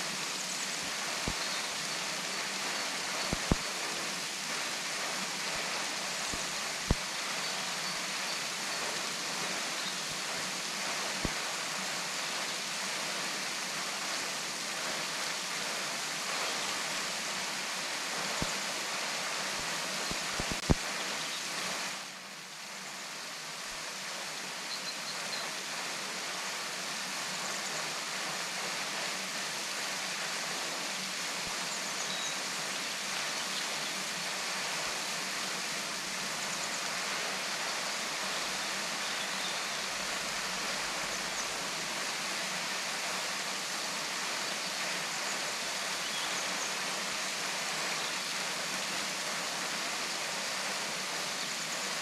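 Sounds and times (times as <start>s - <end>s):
waterfall rushing: 0.0s - 22.1s, 25.6s - 52.0s.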